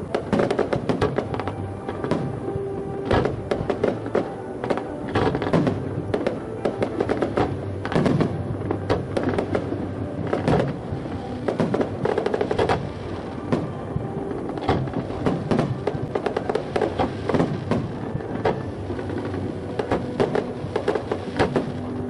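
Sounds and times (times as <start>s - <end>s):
continuous rumble: 0.0s - 22.0s
fireworks bursting and crackling: 0.0s - 22.0s.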